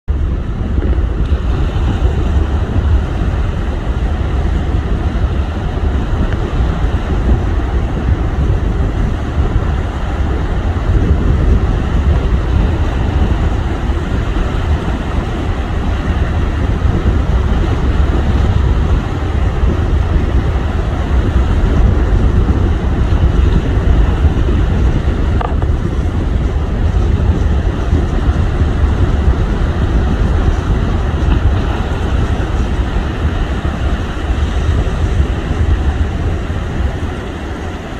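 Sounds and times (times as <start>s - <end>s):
wind buffeting microphone: 0.0s - 37.9s
heavy sea waves rushing: 0.1s - 37.9s.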